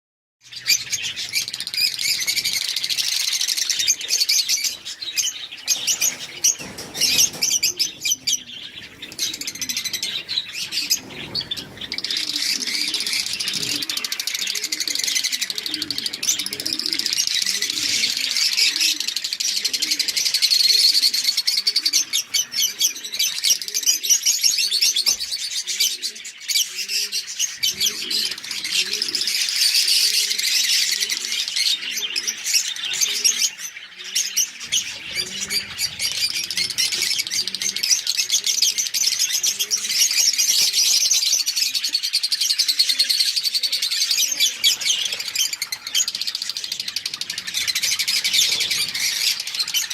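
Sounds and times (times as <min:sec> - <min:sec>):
lovebirds chirping: 0:00.4 - 0:49.9.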